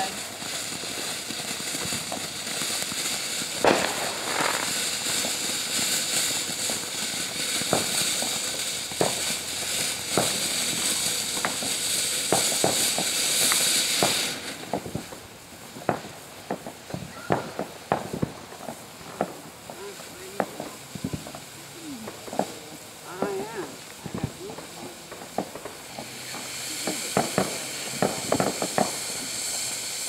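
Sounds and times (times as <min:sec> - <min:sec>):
firework fountain hissing: 0:00.0 - 0:30.0
firework pops and crackles: 0:00.0 - 0:30.0.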